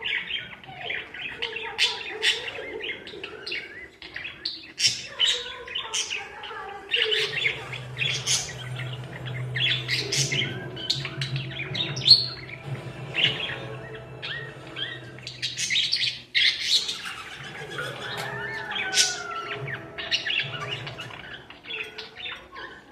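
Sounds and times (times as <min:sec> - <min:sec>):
parakeets chirping and warbling: 0:00.0 - 0:22.9.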